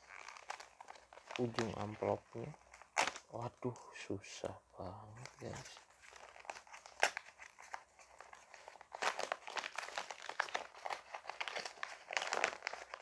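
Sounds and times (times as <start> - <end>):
envelope tearing: 0.0 - 3.5, 5.1 - 13.0.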